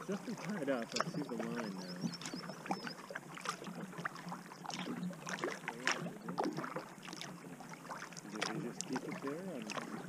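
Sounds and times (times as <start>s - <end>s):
paddle strokes in water: 0.0s - 10.0s
water drips and splashes: 0.0s - 10.0s.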